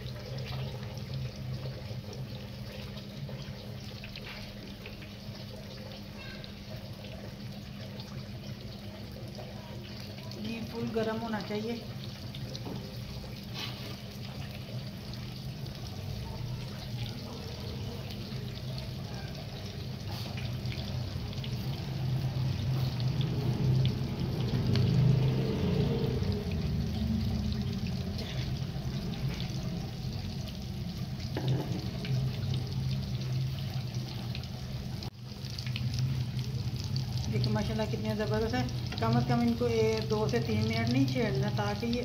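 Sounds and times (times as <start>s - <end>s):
food sizzling in hot oil: 0.0s - 42.0s
low steady hum: 0.0s - 42.0s.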